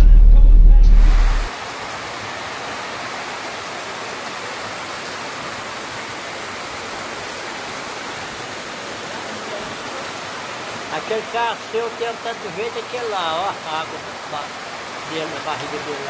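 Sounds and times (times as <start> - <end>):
rain and floodwater rushing: 0.9 - 16.0.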